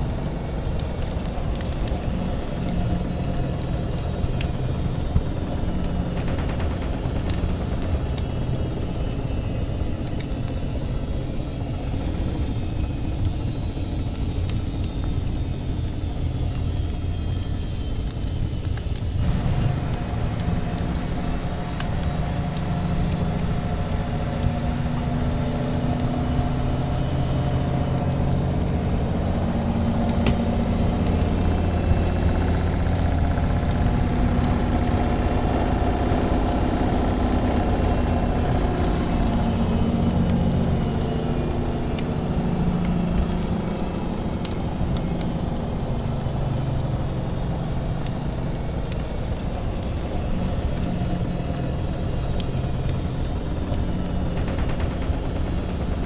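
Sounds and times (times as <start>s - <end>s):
washing machine humming: 0.0s - 56.0s
wood fire crackling: 0.0s - 56.0s.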